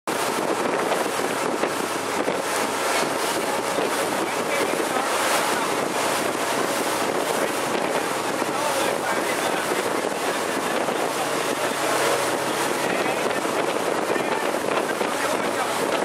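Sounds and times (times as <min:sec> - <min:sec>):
water washing past boat hull: 0:00.1 - 0:16.0
wind buffeting microphone: 0:00.1 - 0:16.0.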